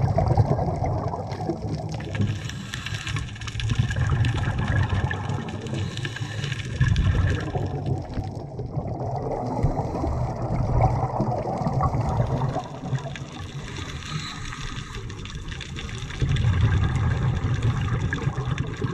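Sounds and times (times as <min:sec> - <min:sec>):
muffled underwater rumbling: 0:00.0 - 0:18.9.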